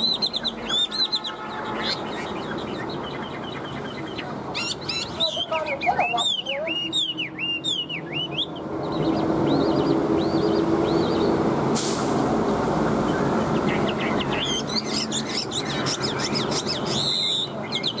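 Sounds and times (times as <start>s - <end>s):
bird singing whistled notes: 0.0s - 11.4s, 13.1s - 18.0s.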